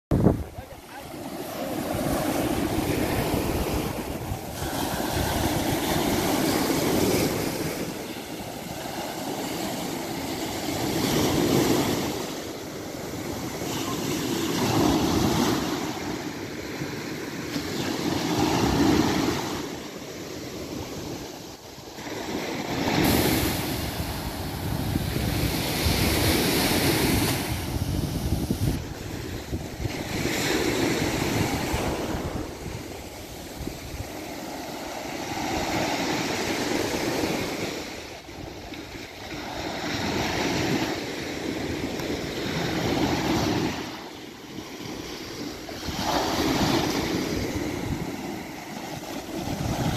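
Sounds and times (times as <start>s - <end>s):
small waves breaking on sand: 0.1s - 49.9s.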